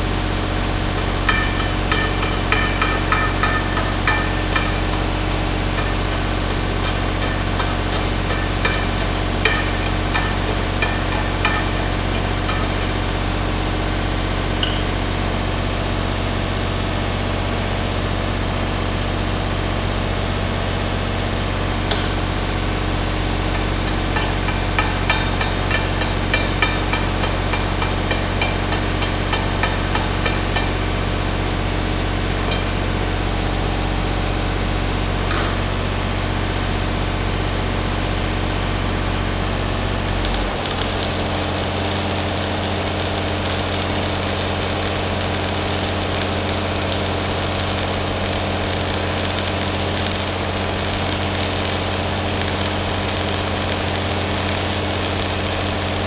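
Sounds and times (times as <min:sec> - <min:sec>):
machine humming: 0:00.0 - 0:56.0.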